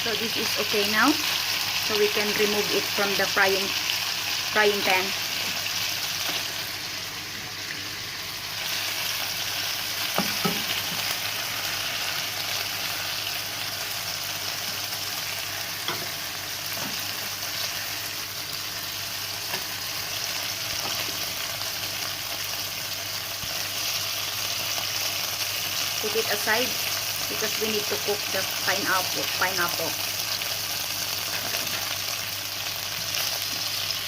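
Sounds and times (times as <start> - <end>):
chicken sizzling in frying pan: 0.0 - 34.0.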